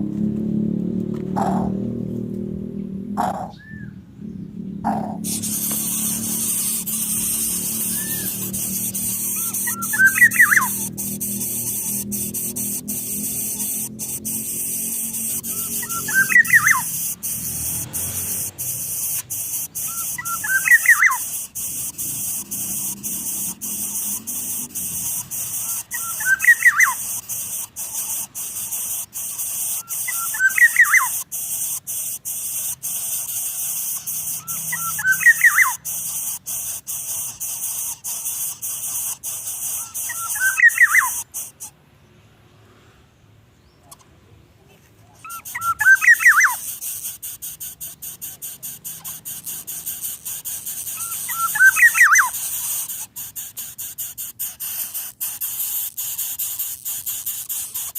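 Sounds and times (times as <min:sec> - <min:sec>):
small bird chirping calls: 0:01.4 - 0:01.9, 0:02.6 - 0:42.2, 0:45.0 - 0:57.9
steady high hiss: 0:05.1 - 0:57.9.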